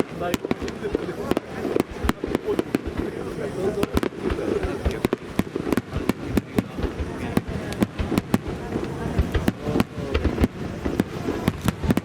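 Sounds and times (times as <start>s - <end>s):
fireworks bursts and bangs: 0.0s - 12.0s
murmur of voices: 0.0s - 12.0s.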